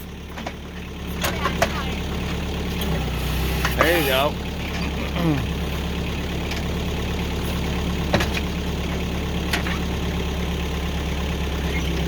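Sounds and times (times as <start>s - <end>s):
backhoe engine idling: 0.0s - 12.0s.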